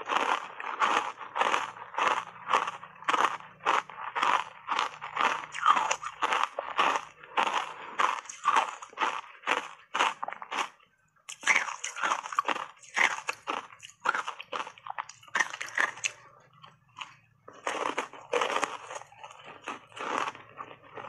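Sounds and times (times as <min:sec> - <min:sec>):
ice crunching between teeth: 0:00.0 - 0:21.0.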